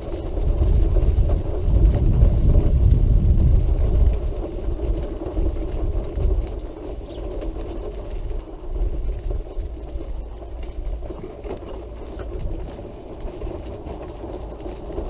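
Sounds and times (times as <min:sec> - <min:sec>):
power wheelchair motors rumbling: 0:00.0 - 0:15.0.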